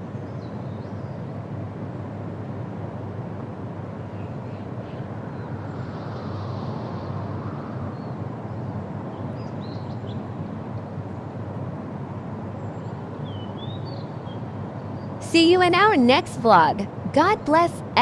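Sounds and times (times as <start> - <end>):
outdoor background rush: 0.0 - 18.0.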